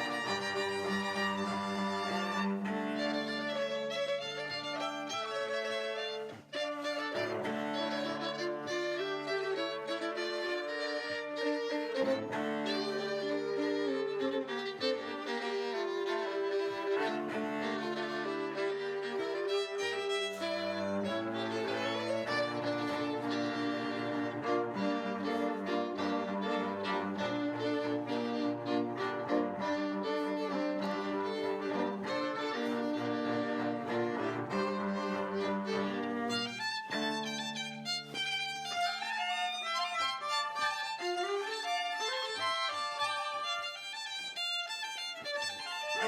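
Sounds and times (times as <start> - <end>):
string ensemble playing: 0.0 - 46.0.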